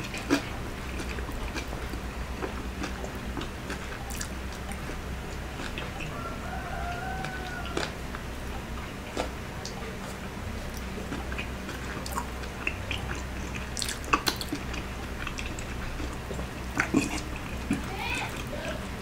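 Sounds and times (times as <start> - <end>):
man chewing: 0.0 - 19.0.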